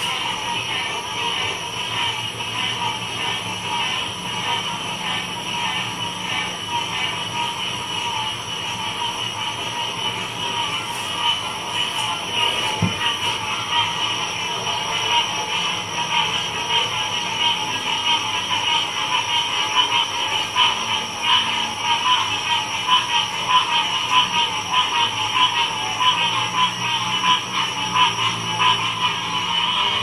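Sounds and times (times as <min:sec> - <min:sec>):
chorus of frogs calling: 0:04.9 - 0:30.0.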